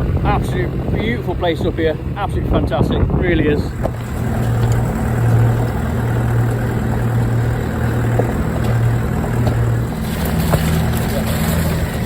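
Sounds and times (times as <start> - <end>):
vehicle engine low drone: 0.0 - 12.0.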